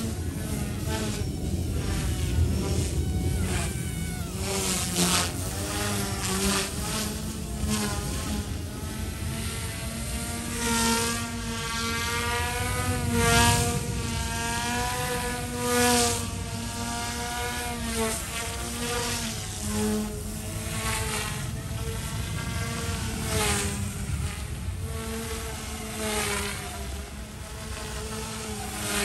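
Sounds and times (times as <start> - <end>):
rc helicopter motor whine: 0.0 - 29.0
rushing rotor blade noise: 0.0 - 29.0.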